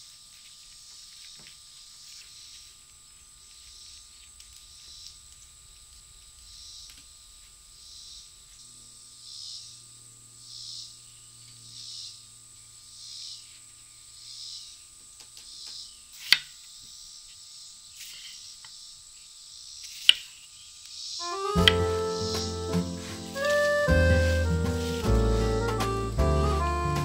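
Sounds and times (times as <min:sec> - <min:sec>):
insect calling: 0:00.2 - 0:25.5.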